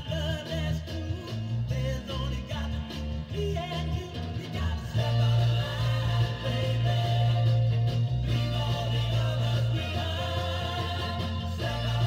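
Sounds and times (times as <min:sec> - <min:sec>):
soul record with singing: 0:00.0 - 0:12.0.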